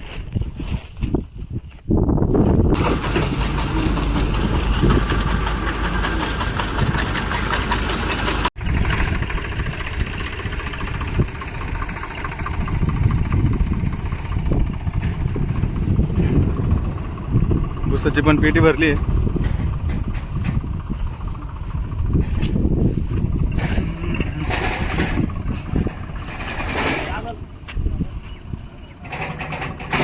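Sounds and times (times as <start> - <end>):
combine harvester rattling: 2.7 - 30.0.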